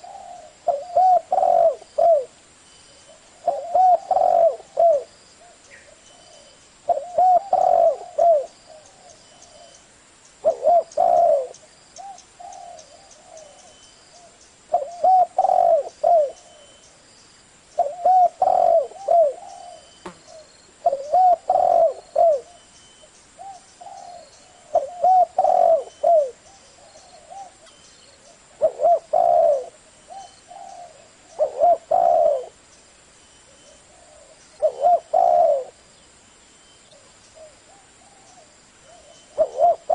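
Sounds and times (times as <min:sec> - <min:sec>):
dove cooing: 0:00.0 - 0:02.4, 0:03.0 - 0:09.8, 0:10.4 - 0:16.8, 0:17.8 - 0:22.7, 0:23.4 - 0:32.6, 0:33.5 - 0:35.8, 0:36.9 - 0:39.9.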